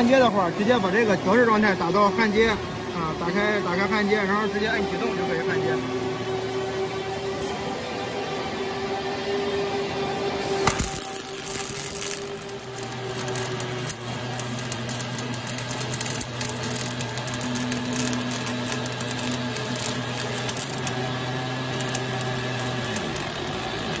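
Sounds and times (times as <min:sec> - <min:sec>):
welding arc crackling and buzzing: 0:00.0 - 0:24.0.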